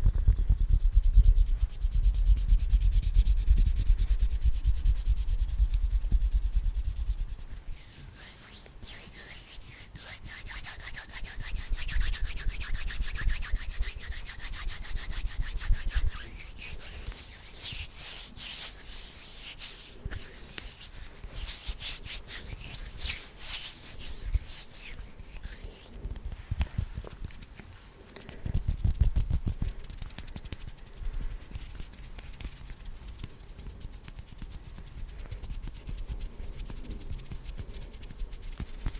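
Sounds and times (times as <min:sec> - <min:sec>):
hands rubbing together: 0:00.0 - 0:38.9.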